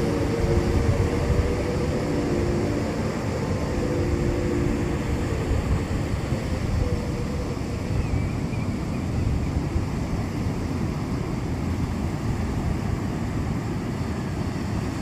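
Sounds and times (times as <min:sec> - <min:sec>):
rough sea surf: 0:00.0 - 0:15.0
wind on microphone: 0:00.0 - 0:15.0.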